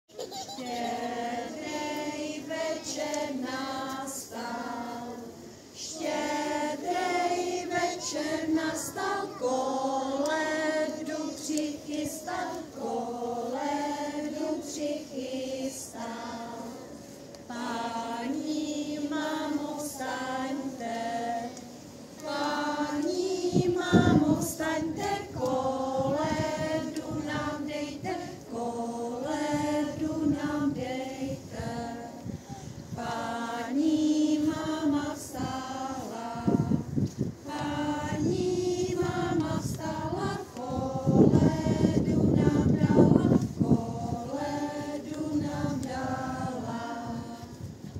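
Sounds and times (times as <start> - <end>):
children and women singing a carol: 0.3 - 47.9.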